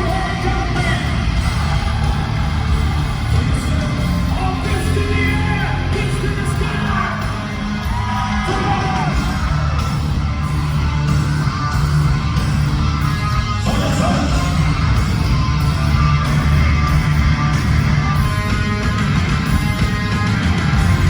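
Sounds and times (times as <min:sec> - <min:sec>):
live hard rock band: 0:00.0 - 0:21.0.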